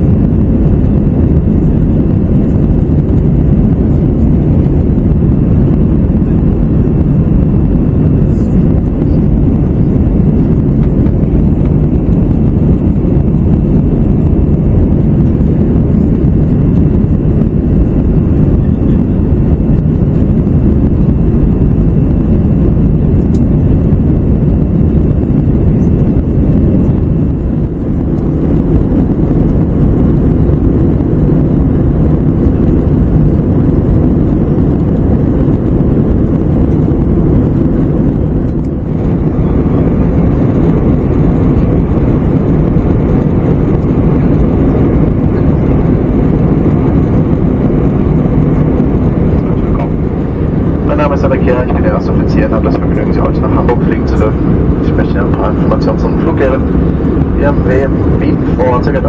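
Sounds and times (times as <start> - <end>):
airflow past fuselage: 0.0 - 59.0
faint high whine: 0.0 - 59.0
low rumble of jet engines: 0.0 - 59.0.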